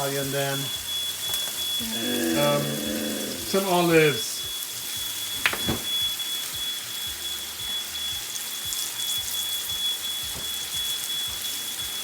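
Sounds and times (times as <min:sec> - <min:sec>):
pan sizzling and crackling: 0:00.0 - 0:01.8, 0:03.5 - 0:12.0.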